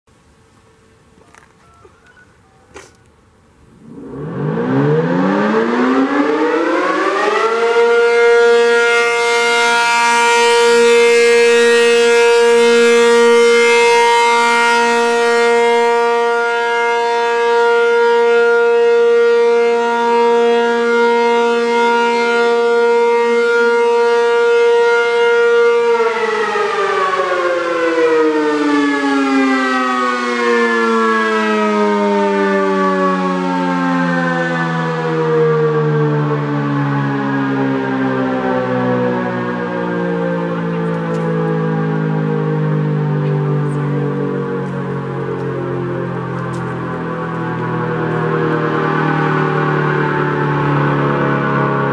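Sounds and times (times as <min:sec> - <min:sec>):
rotating warning siren wailing: 0:00.5 - 0:51.9.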